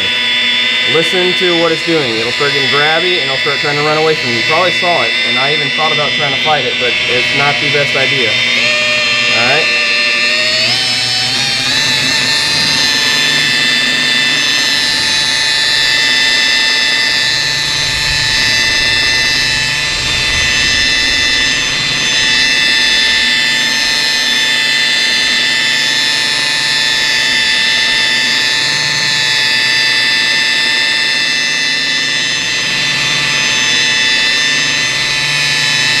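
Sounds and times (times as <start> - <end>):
electric polisher whine: 0.0 - 36.0.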